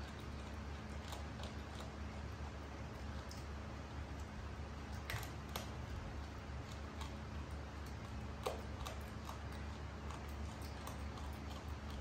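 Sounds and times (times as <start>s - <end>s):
monkey eating with clicks and smacks: 0.0s - 12.0s
steady low hum: 0.0s - 12.0s.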